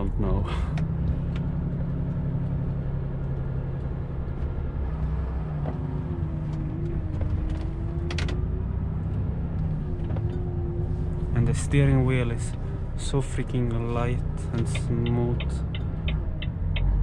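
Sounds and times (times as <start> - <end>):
road noise: 0.0 - 17.0
truck engine hum: 0.0 - 17.0.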